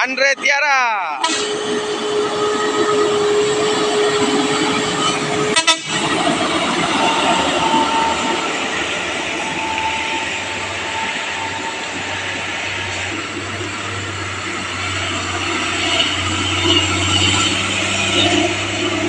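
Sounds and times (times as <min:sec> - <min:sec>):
road noise: 0:00.0 - 0:19.0
whining tone: 0:01.2 - 0:19.0.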